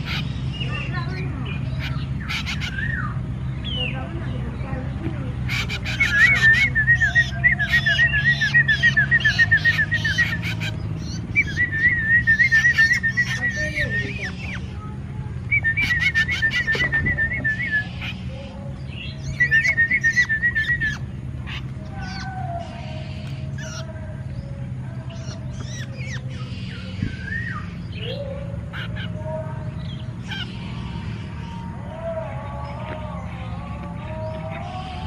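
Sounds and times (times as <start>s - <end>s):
bird warbling trill: 0.0s - 4.6s, 5.4s - 35.0s
bird chirps and rising calls: 0.0s - 35.0s.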